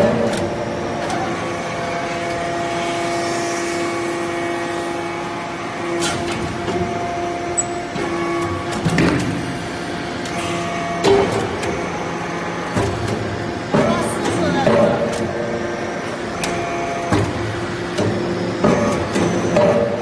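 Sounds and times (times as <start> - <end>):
hydraulic pump humming whine: 0.0 - 20.0.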